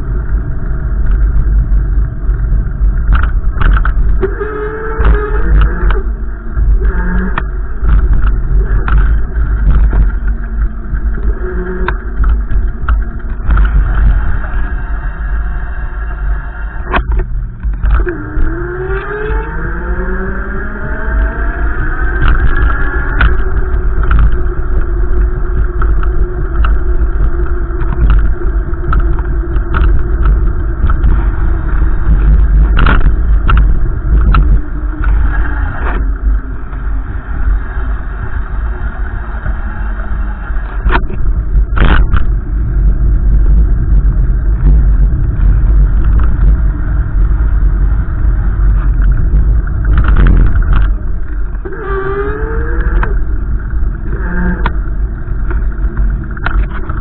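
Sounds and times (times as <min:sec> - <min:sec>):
vehicle engine tone: 0:00.0 - 0:57.0
wind buffeting microphone: 0:00.0 - 0:57.0.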